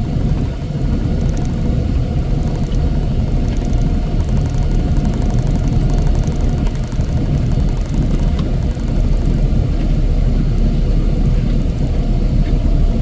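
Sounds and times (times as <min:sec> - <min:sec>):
heavy machinery engine droning: 0:01.0 - 0:11.8.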